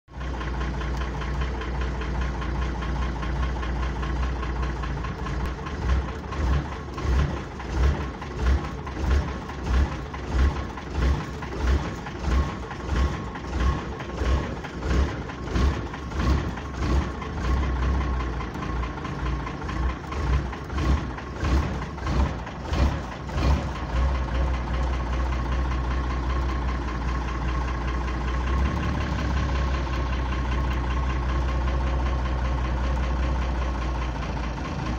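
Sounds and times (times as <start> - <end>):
diesel engine knocking: 0.1 - 34.9.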